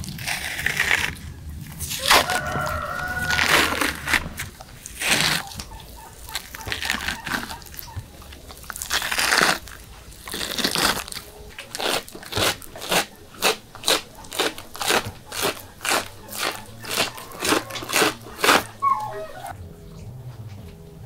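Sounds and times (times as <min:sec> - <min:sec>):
knife scraping and tearing liver: 0:00.0 - 0:19.5.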